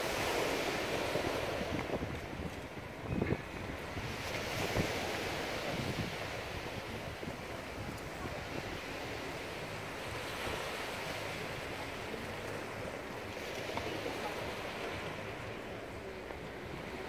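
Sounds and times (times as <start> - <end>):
wind on microphone: 0.0 - 15.3
sea waves: 0.0 - 17.0.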